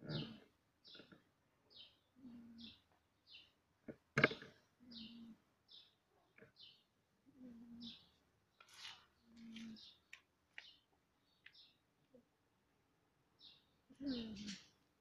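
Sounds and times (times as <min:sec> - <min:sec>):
small bird chirping: 0:00.0 - 0:03.6, 0:04.2 - 0:12.3, 0:13.4 - 0:14.8.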